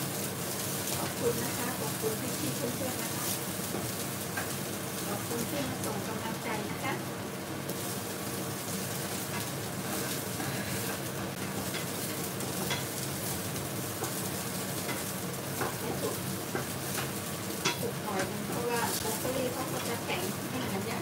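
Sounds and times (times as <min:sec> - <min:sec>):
broccoli sizzling in frying pan: 0:00.0 - 0:21.0.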